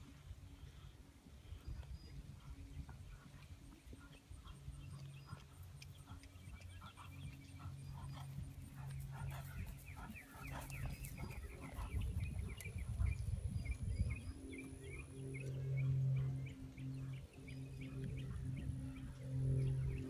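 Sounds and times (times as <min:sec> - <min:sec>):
wind rumbling on microphone: 0:00.0 - 0:20.0
birds chirping and clucking: 0:02.5 - 0:20.0.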